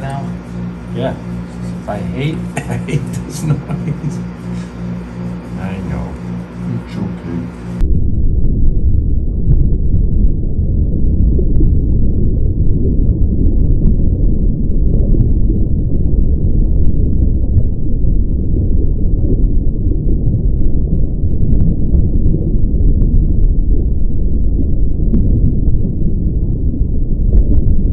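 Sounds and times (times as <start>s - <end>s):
machinery low rumble: 0.0s - 27.9s.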